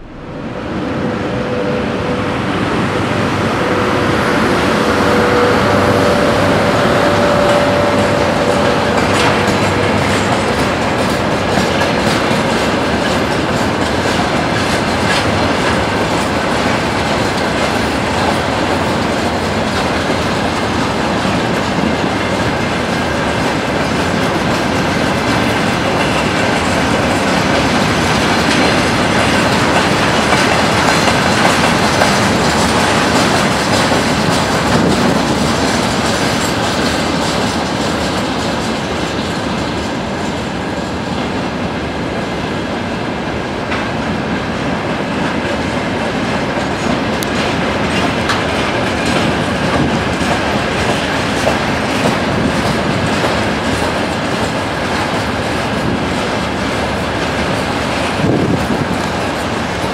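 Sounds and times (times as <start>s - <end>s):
train wheels clattering over rail joints: 5.1s - 41.5s, 43.4s - 59.9s.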